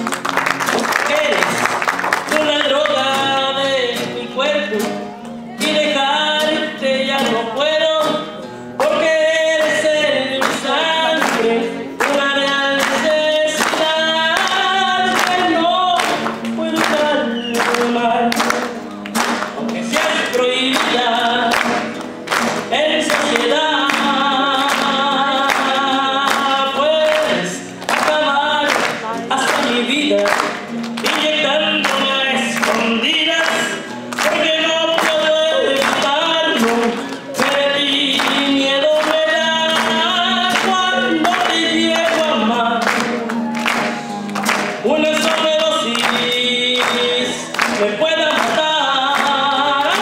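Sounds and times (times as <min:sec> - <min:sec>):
acoustic guitars strumming: 0:00.0 - 0:50.0
man singing: 0:00.7 - 0:50.0.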